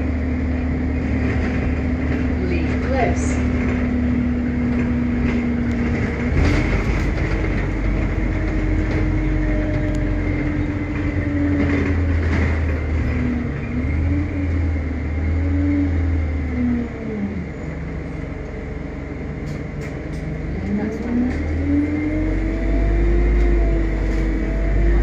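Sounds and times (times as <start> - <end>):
bus engine pulling hard: 0.0 - 25.0
engine whine: 0.0 - 25.0.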